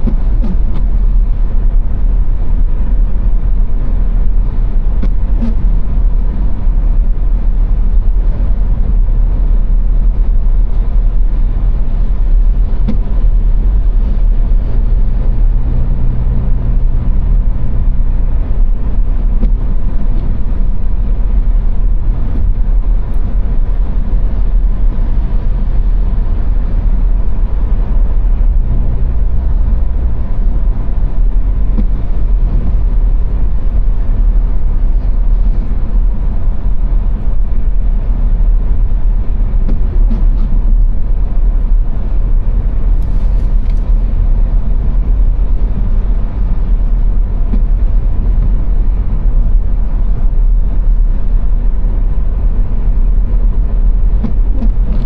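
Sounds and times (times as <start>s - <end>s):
car driving on motorway: 0.0s - 55.0s.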